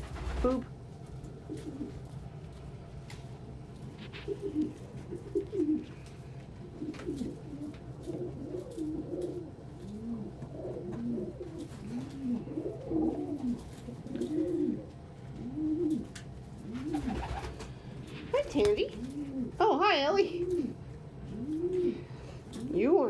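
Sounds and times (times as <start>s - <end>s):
pigeons cooing: 0.0s - 0.6s, 1.2s - 2.3s, 3.7s - 23.0s.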